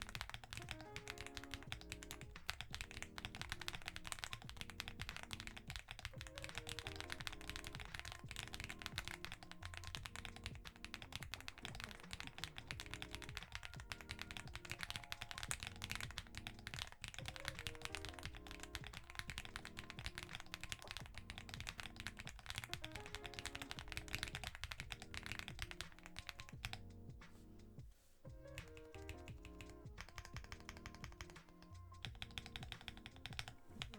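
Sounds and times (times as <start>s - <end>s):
mechanical keyboard typing: 0.0s - 27.2s, 28.3s - 33.9s
background music: 0.0s - 33.9s.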